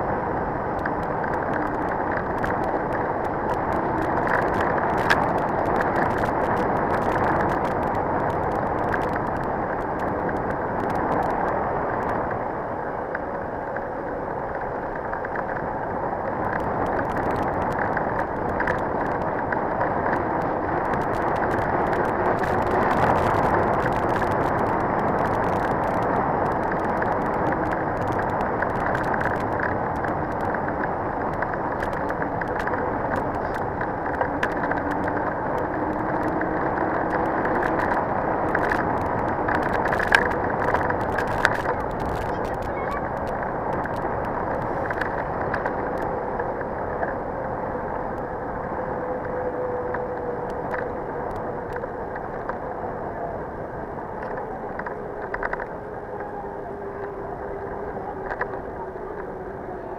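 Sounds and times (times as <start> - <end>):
bike tyre noise: 0.0 - 59.9.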